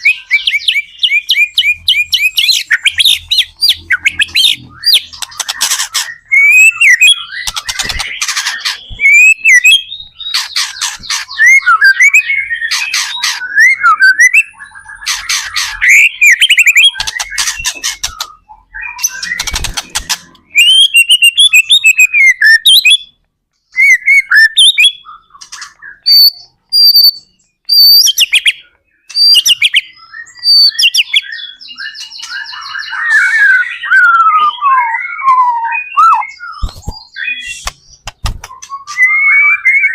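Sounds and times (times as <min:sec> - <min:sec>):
bird singing whistled phrases: 0:00.0 - 0:05.5, 0:06.1 - 0:08.0, 0:08.8 - 0:19.7, 0:20.5 - 0:39.9.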